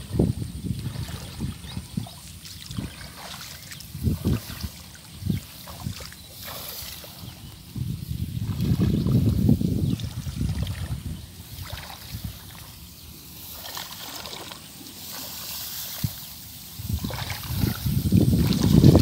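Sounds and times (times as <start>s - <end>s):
footsteps sloshing through water: 0.0s - 19.0s.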